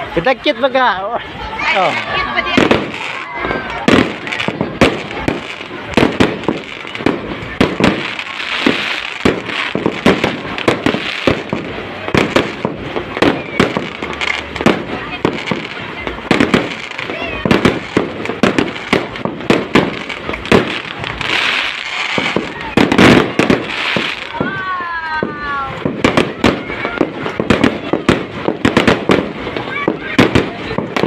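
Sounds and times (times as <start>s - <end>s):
fireworks bursting with sharp bangs: 0.0s - 31.0s
fireworks crackle: 0.0s - 31.0s.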